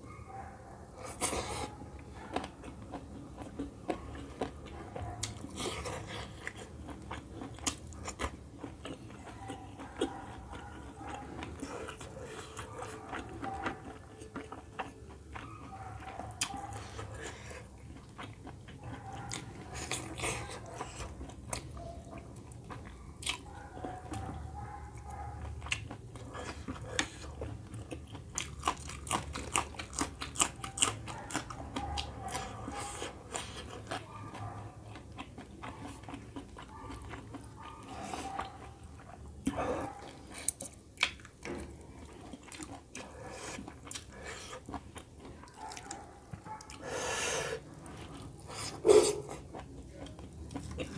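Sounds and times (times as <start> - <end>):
food crunching: 1.0 - 47.0, 47.6 - 50.9
close chewing and mouth smacks: 1.0 - 50.9.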